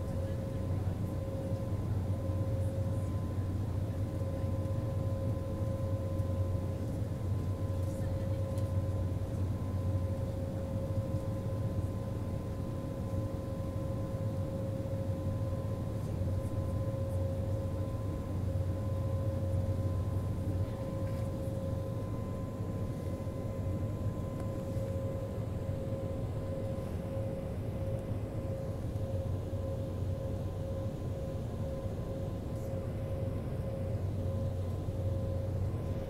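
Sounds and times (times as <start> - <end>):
airliner cabin drone: 0.0 - 36.0
faint high whine: 0.0 - 36.0
mid-pitched whine: 0.0 - 36.0.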